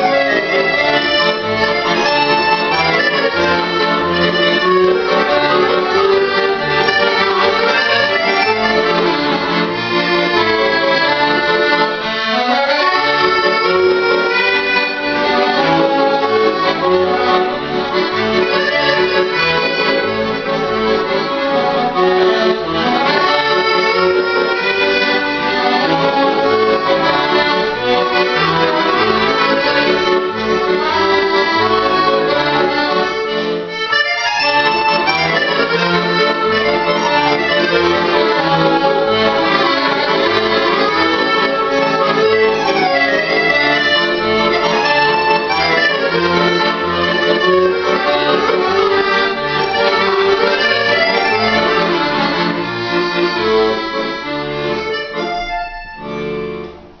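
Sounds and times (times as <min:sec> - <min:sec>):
solo accordion playing: 0:00.0 - 0:57.0.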